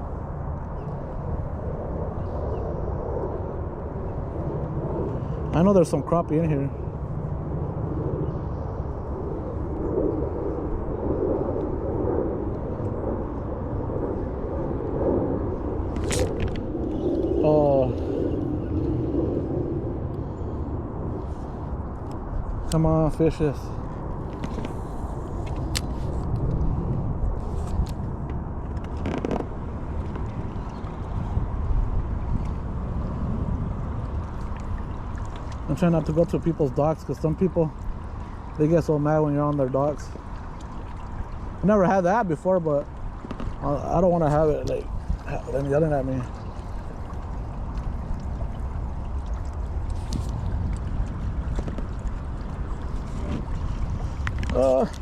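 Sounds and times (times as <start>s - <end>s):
wind and water rumble: 0.0s - 55.0s.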